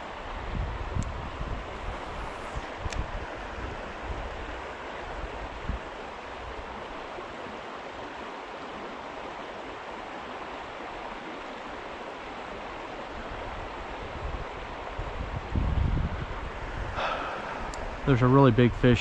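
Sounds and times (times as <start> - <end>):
water flowing in a stream: 0.0 - 19.0.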